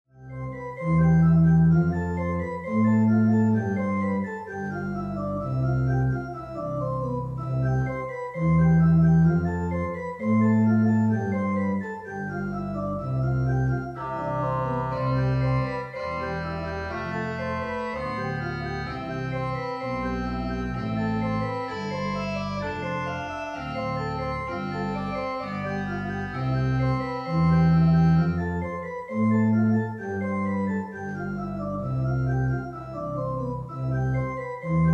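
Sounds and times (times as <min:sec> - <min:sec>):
organ playing chords: 0:00.2 - 0:34.9.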